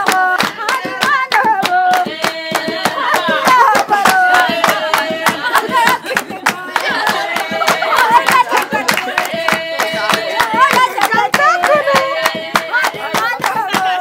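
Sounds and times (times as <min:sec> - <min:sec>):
handclapping: 0:00.0 - 0:14.0
women singing together: 0:00.0 - 0:14.0.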